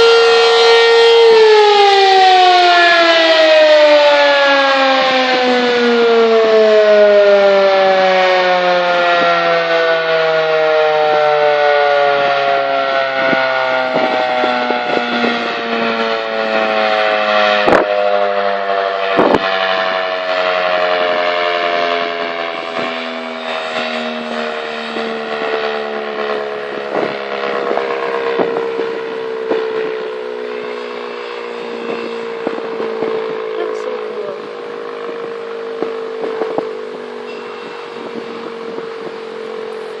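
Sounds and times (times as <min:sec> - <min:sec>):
warning siren wailing: 0:00.0 - 0:40.0.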